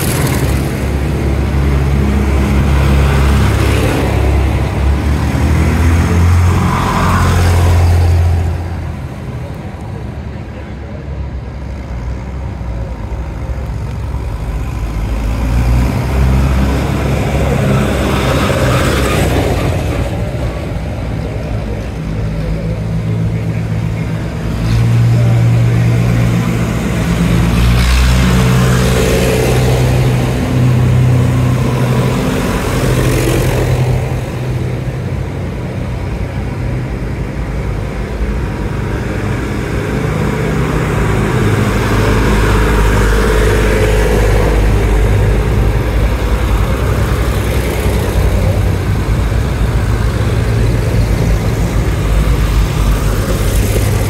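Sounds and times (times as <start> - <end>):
tractor engine running: 0.0 - 6.6, 11.6 - 54.0.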